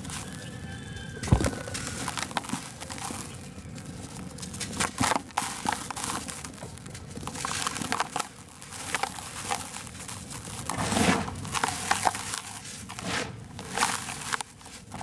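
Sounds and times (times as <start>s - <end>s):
cement lumps crushed by hand: 0.0s - 15.0s
fingers raking cement powder: 0.0s - 15.0s.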